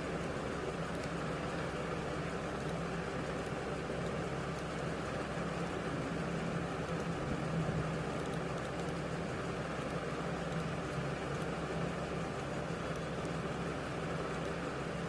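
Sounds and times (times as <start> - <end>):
low hum with hiss: 0.0 - 15.0
faint clicks: 0.8 - 7.2, 8.0 - 14.7.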